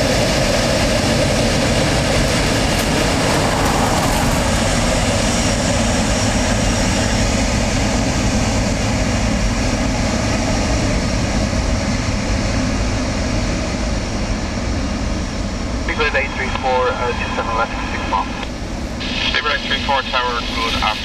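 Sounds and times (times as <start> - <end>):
jet engine roar: 0.0 - 21.0.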